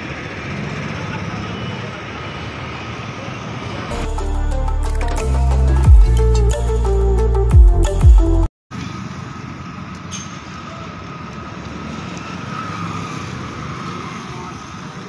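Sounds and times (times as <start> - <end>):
traffic engines running: 0.0 - 6.9, 8.7 - 15.0.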